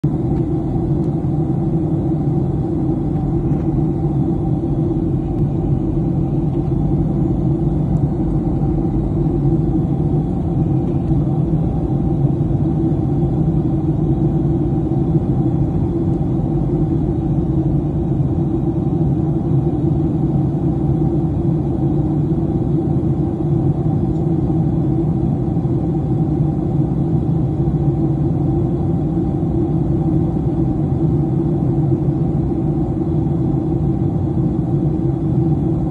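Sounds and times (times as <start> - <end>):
airplane cabin engine drone: 0.0 - 35.9.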